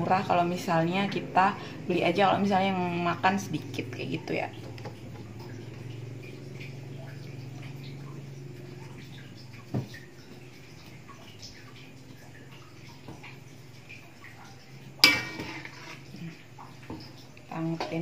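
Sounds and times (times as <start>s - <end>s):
food crackling and bubbling: 0.0s - 18.0s
steady low hum: 0.0s - 18.0s.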